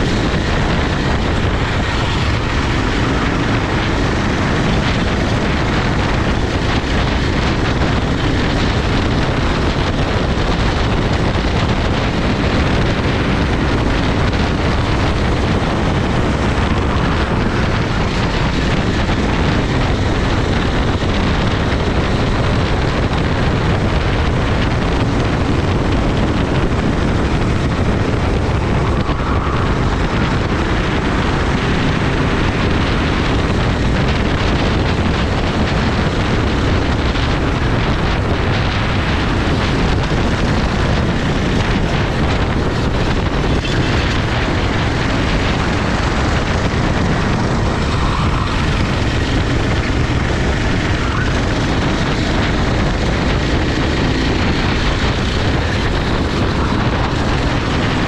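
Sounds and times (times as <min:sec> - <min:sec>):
kart engine running: 0:00.0 - 0:58.0
wind buffeting microphone: 0:00.0 - 0:58.0.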